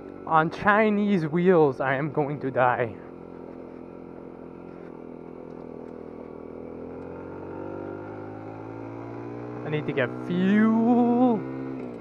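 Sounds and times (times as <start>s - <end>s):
mini motorcycle engine running: 0.0s - 12.0s.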